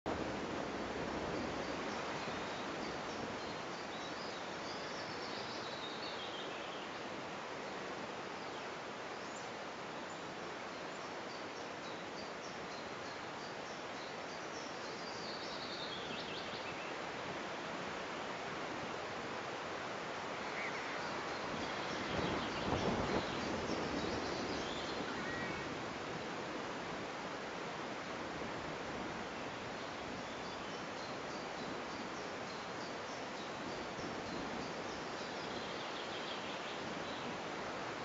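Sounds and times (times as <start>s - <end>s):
wind in trees: 0.1s - 38.0s
songbird singing: 1.2s - 18.5s, 19.2s - 26.4s, 29.4s - 38.0s.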